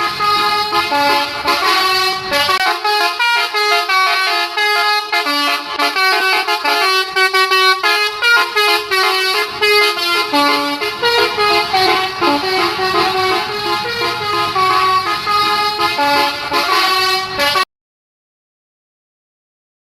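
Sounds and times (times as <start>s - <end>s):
air horns playing a tune: 0.0s - 17.7s.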